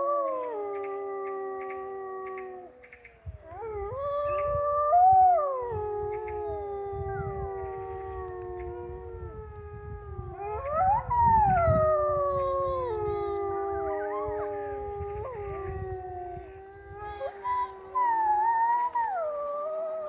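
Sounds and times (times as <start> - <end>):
wolves howling in chorus: 0.0 - 20.0.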